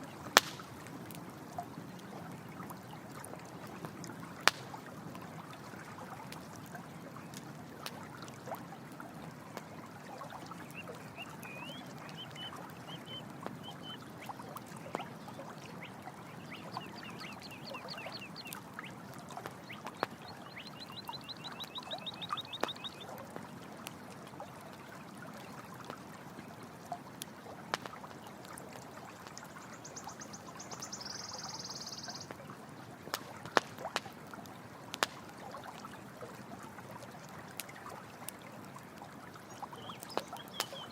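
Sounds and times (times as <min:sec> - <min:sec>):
campfire crackling: 0:00.0 - 0:40.9
stream water flowing: 0:00.0 - 0:40.9.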